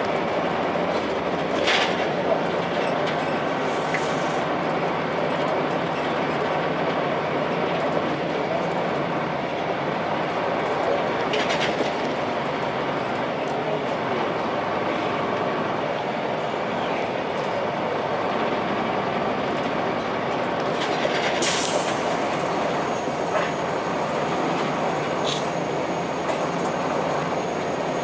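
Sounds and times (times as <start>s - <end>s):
bus diesel engine running: 0.0s - 28.0s
road noise: 0.0s - 28.0s.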